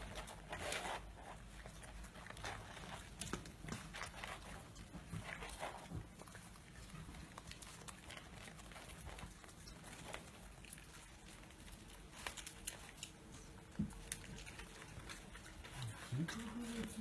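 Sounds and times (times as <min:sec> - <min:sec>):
clicks and rustles of handling food: 0:00.0 - 0:17.0.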